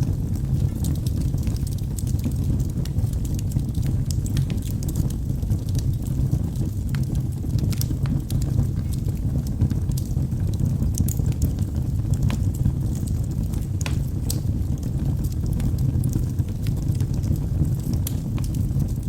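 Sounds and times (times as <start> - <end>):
wood fire burning: 0.0 - 19.0.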